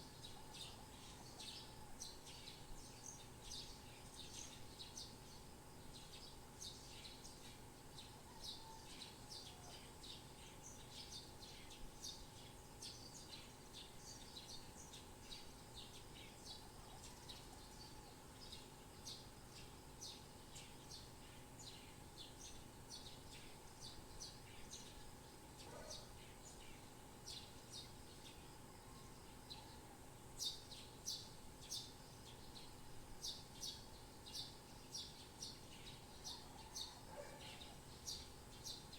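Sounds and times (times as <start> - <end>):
faint background hum: 0.0 - 38.9
small birds chirping: 0.0 - 38.9.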